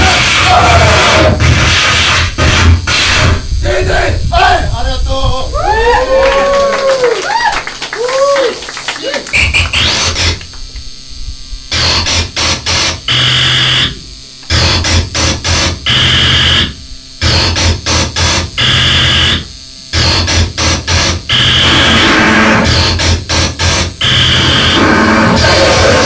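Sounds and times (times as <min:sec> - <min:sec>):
harsh electronic noise music: 0:00.0 - 0:05.5, 0:09.3 - 0:10.6, 0:11.6 - 0:26.0.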